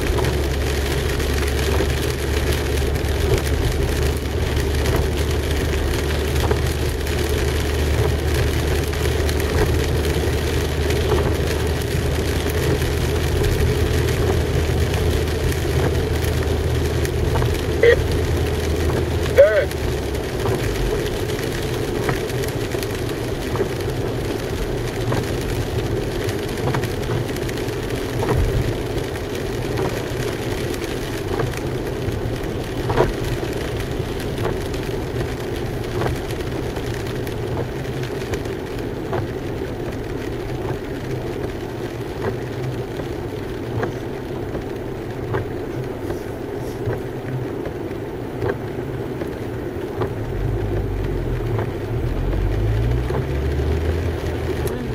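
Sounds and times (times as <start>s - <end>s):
car engine hum: 0.0s - 54.9s
tyre hiss on wet road: 0.2s - 54.9s.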